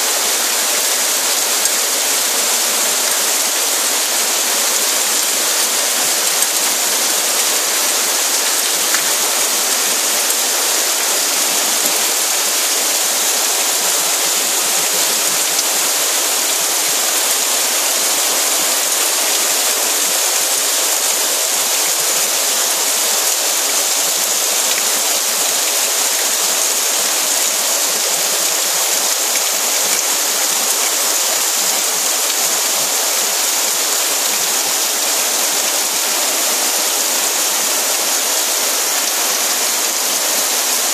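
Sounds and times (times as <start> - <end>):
torrential rain on pavement: 0.0 - 40.9.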